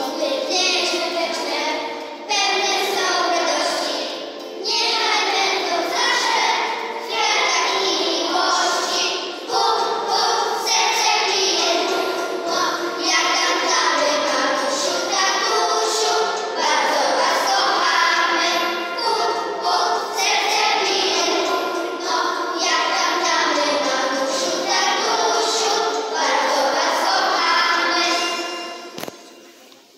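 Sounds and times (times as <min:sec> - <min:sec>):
children's choir singing: 0:00.0 - 0:29.9.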